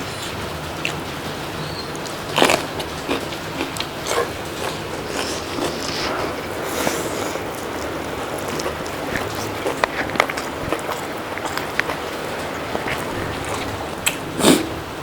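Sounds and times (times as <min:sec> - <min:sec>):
biting and chewing: 0:00.0 - 0:14.9.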